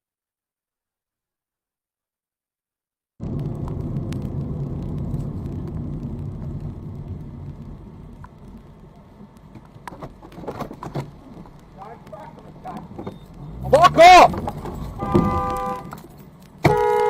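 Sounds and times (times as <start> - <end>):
car engine rumble: 3.2 - 17.0
road noise: 3.2 - 17.0.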